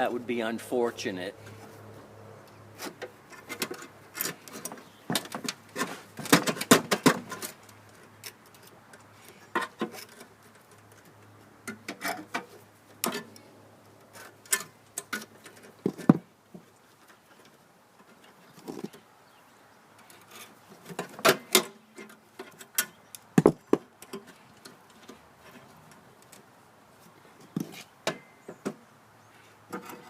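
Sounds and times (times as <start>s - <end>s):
hand tools clicking and scraping: 2.5s - 19.1s, 19.9s - 28.8s, 29.5s - 30.0s.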